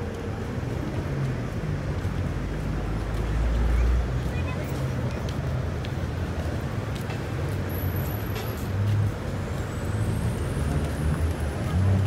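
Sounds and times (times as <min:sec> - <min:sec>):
street low rumble: 0:00.0 - 0:12.0.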